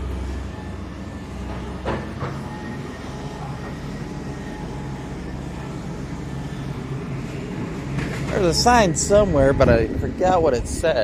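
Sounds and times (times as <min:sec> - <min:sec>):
heavy equipment engine humming: 0:00.0 - 0:11.0.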